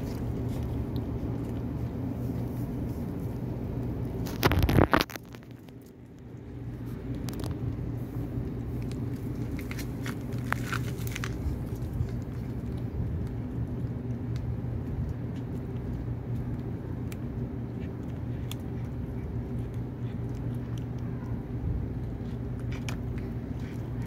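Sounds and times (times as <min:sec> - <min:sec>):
kitten chewing food: 0:00.0 - 0:24.0
steady low hum: 0:00.0 - 0:24.0.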